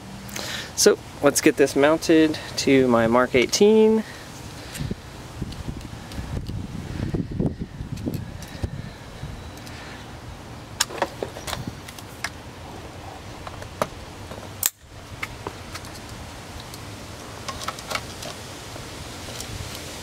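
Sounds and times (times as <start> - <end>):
steady low background hiss: 0.0 - 20.0.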